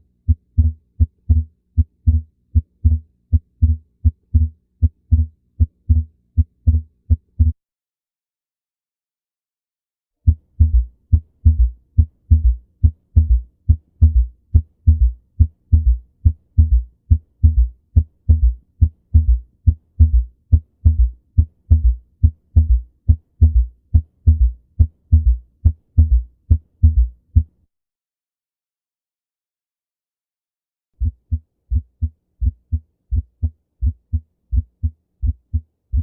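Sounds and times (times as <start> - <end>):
heartbeat thumps: 0.3 - 7.6, 10.3 - 27.5, 31.0 - 36.0.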